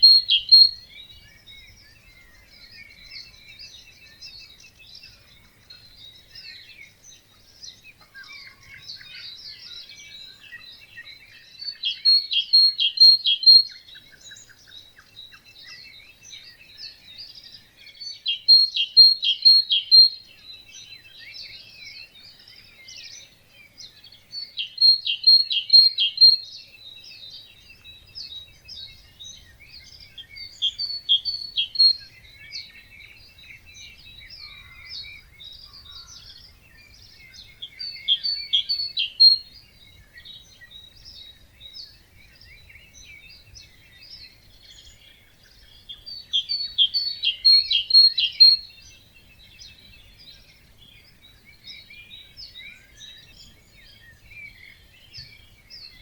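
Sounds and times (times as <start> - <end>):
loud rapid bird song: 0.0 - 56.0
soft bird chirping: 0.0 - 56.0.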